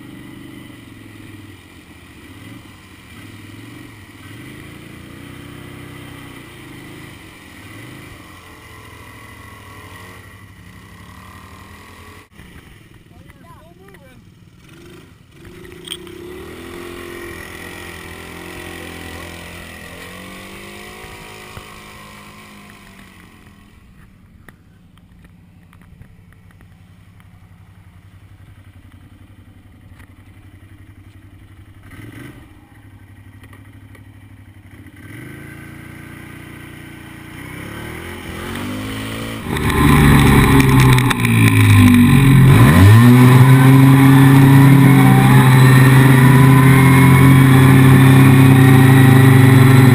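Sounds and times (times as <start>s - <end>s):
quad engine revving: 0.0s - 24.1s, 31.6s - 34.0s, 34.7s - 49.9s.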